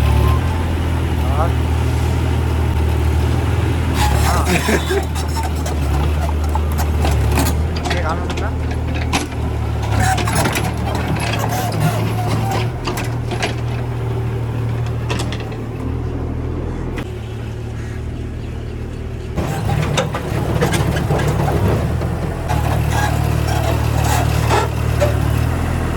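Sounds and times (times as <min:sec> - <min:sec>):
vehicle engine humming: 0:00.0 - 0:25.9.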